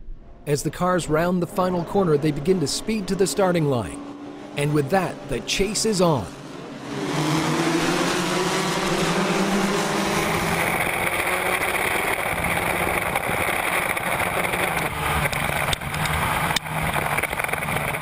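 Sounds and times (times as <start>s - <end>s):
race car engine at full throttle: 0.1s - 18.0s
race cars accelerating: 0.4s - 18.0s.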